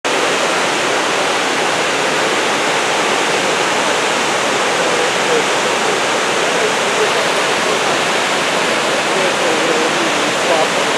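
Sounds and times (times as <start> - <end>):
waterfall rushing: 0.1 - 10.9.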